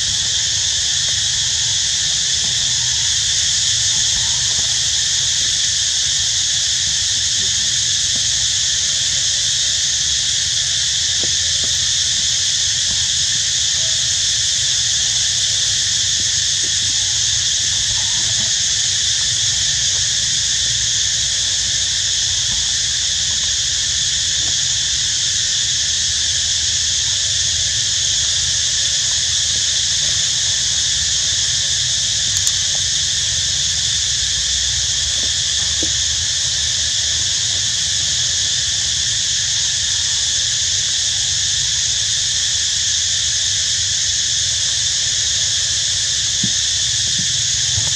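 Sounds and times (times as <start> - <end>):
insects buzzing: 0.0 - 47.9.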